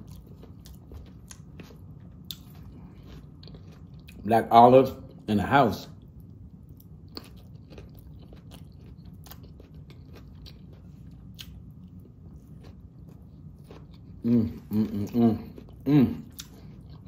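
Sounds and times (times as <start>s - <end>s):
chewing crunchy salad: 0.0s - 17.0s.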